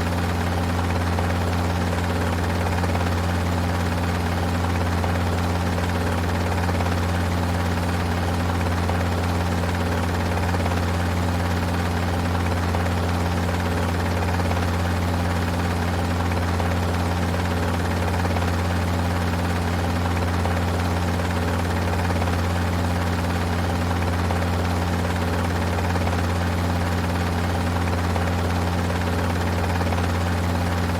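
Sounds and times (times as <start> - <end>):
helicopter engine and rotor drone: 0.0 - 30.9.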